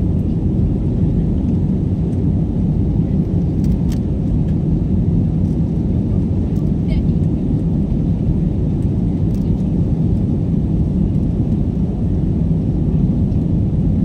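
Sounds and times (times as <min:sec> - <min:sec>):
jet engine and airflow drone: 0:00.0 - 0:14.0.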